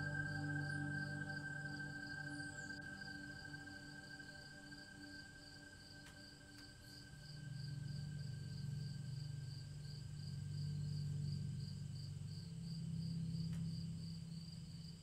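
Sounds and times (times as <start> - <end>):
low sustained drone: 0.0 - 15.0.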